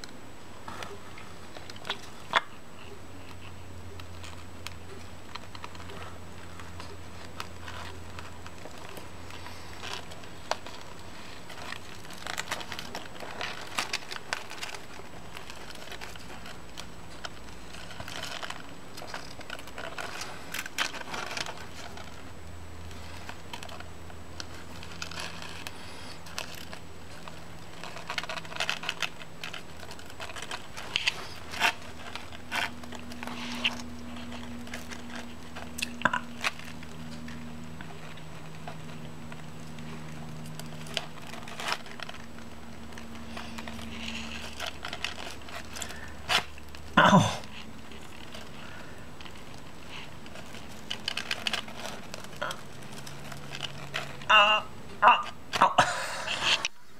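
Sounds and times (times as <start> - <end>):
light rustling on cardboard: 0.0 - 54.3.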